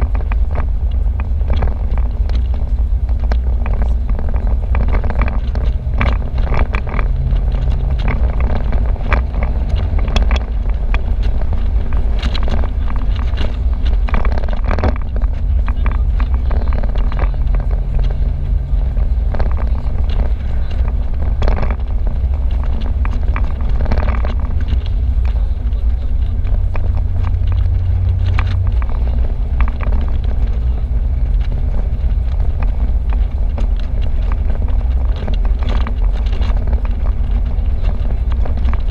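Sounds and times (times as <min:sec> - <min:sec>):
car engine hum: 0:00.0 - 0:38.9
tyre noise: 0:00.0 - 0:38.9
wind buffeting microphone: 0:00.0 - 0:38.9.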